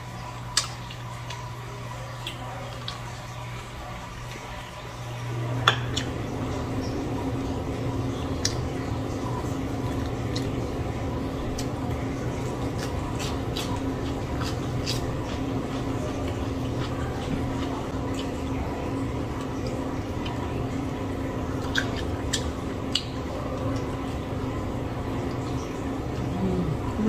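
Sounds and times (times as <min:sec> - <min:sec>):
chewing chicken wings: 0:00.2 - 0:27.0.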